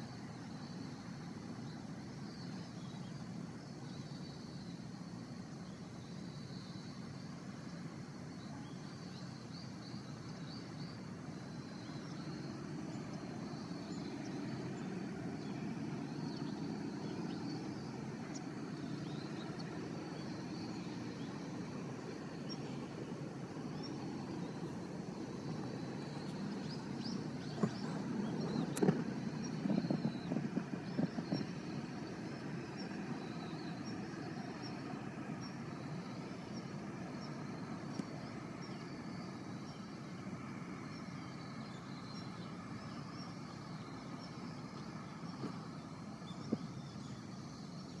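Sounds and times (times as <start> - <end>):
distant engine drone: 0.0 - 48.0.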